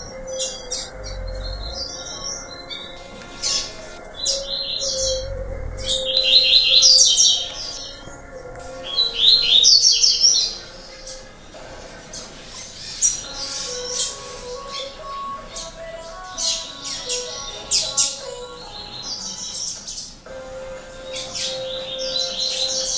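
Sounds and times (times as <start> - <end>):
birds twittering song: 0.0 - 22.9.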